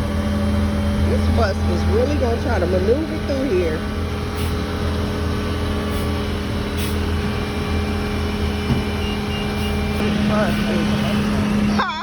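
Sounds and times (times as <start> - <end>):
large vehicle engine idling: 0.0 - 12.0.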